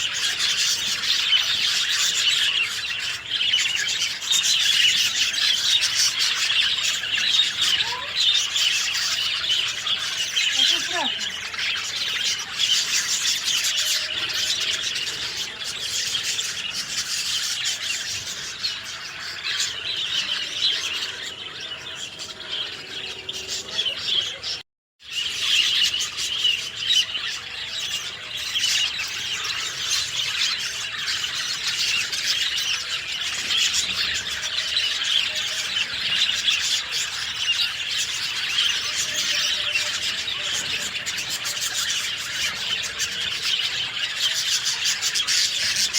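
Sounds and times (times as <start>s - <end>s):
small birds chirping chorus: 0.0s - 45.9s.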